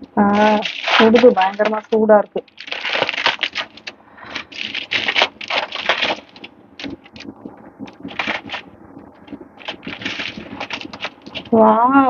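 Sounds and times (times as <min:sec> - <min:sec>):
foil and paper crinkling: 0:00.2 - 0:11.9.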